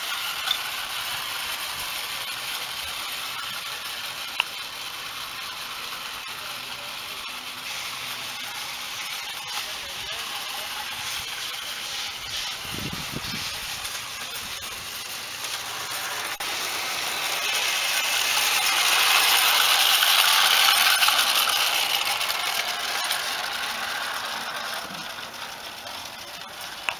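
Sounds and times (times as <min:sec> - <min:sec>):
model train wheels on rails: 0:00.0 - 0:26.9.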